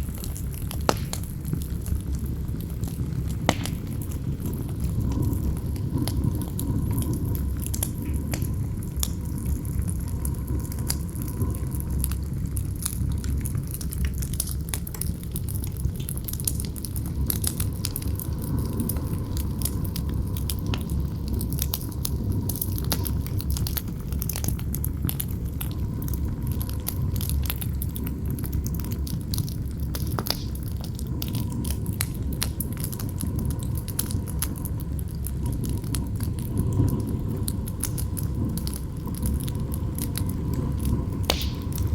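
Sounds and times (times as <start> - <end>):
campfire crackling and popping: 0.0 - 41.9
low rumble of wind: 0.0 - 41.9.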